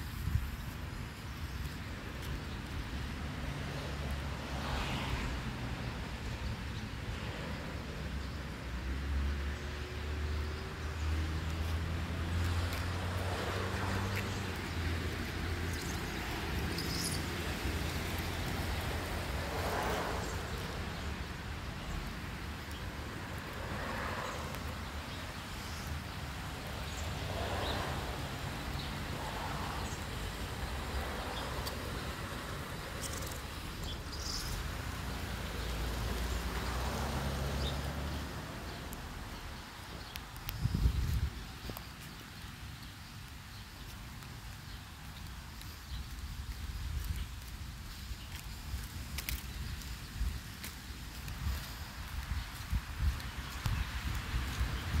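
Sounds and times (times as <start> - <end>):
cars swishing past on wet road: 3.0 - 41.8, 47.0 - 55.0.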